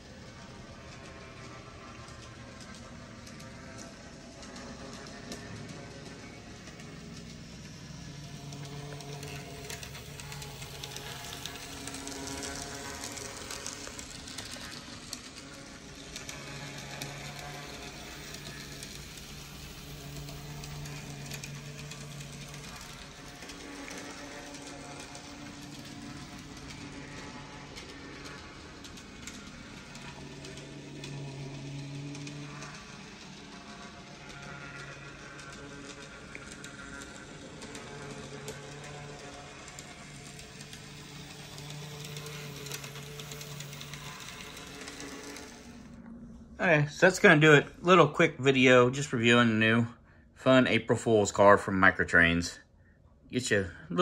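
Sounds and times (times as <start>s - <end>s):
small motor hum: 0.0s - 46.6s
wheels clicking on track: 0.0s - 49.8s.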